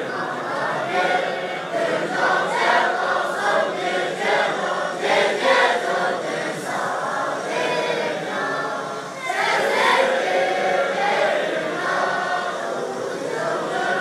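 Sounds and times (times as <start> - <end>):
monks singing in unison: 0.0 - 14.0.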